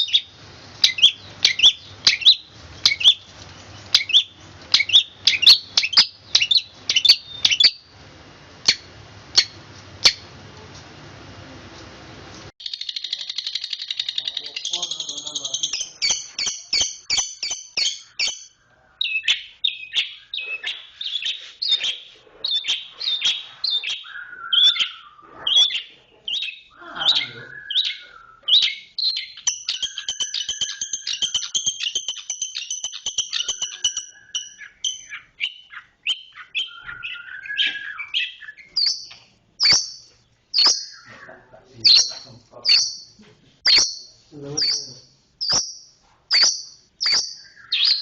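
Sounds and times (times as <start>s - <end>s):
shrike singing chirps and whistles: 0.0s - 3.3s, 3.9s - 7.9s, 12.6s - 48.0s.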